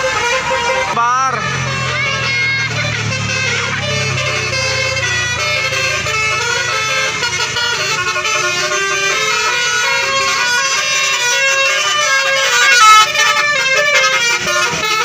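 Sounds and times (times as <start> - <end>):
musical air horn melody: 0.0 - 15.0.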